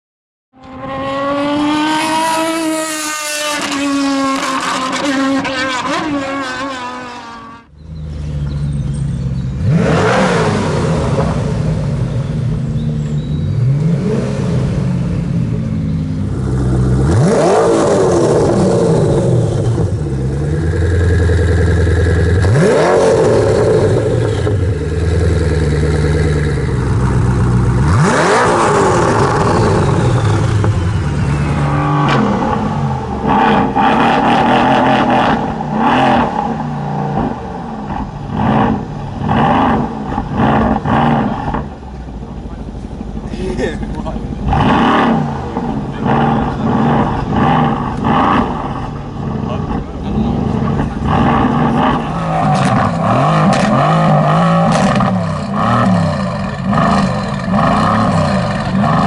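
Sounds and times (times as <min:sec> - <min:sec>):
car engine idling and revving: 0:00.5 - 0:59.0.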